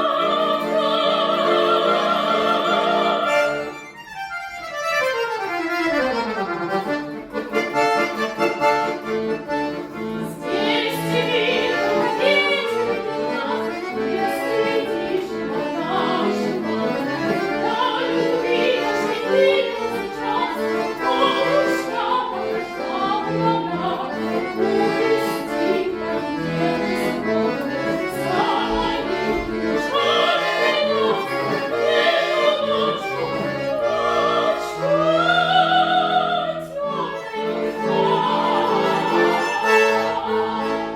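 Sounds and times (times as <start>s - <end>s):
classical singing voice: 0.0s - 4.0s, 7.4s - 40.9s
accordion playing chords: 0.0s - 40.9s.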